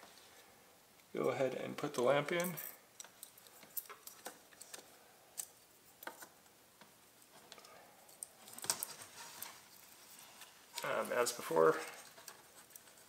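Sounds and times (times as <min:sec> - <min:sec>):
handling noise: 0:01.7 - 0:13.0.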